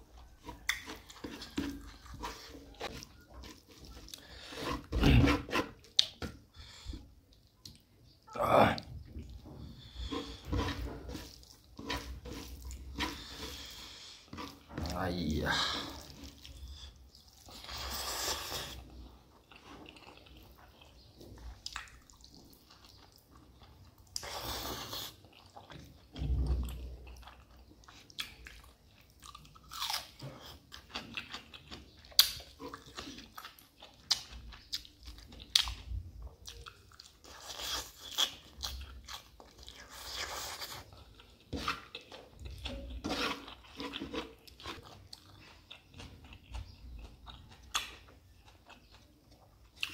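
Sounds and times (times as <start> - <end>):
person chewing and crunching: 0.0 - 49.9.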